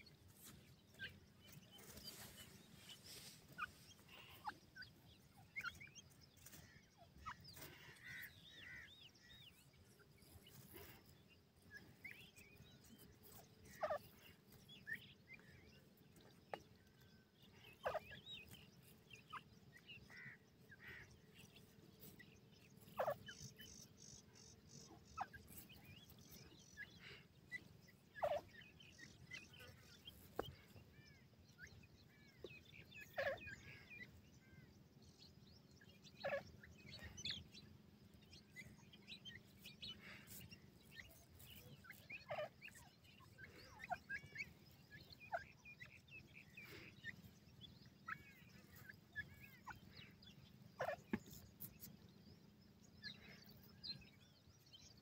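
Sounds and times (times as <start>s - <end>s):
young birds chirping: 0.0s - 55.0s
louder bird calls: 0.9s - 54.4s.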